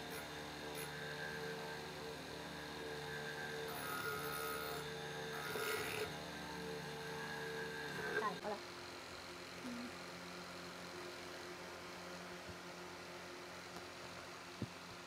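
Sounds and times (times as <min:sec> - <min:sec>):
electric motor hum: 0:00.0 - 0:15.0.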